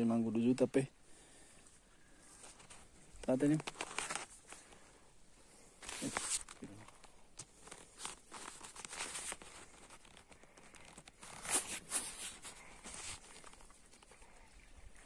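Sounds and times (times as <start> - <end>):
rustling and crinkling handling: 1.6 - 15.0.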